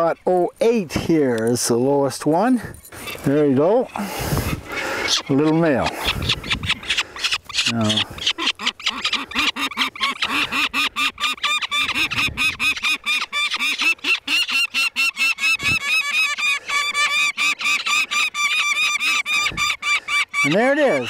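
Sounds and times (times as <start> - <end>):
falcon chick harsh cries: 3.0 - 21.0.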